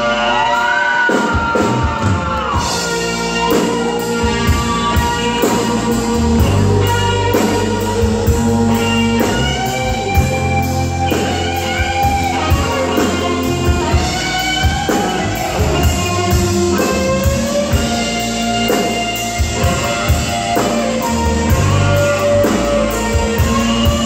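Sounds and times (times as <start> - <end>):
bass guitar: 0.0 - 24.0
drum kit: 0.0 - 24.0
electric guitar solo: 0.0 - 24.0.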